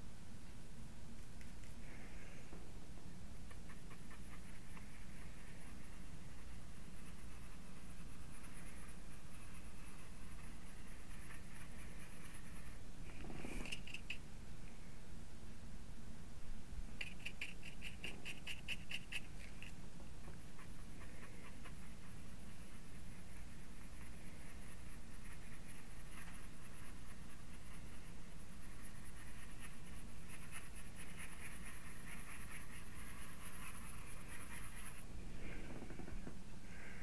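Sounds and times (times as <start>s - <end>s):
steady low hum: 0.0s - 37.0s
paintbrush brushing: 3.4s - 14.2s, 17.0s - 35.9s.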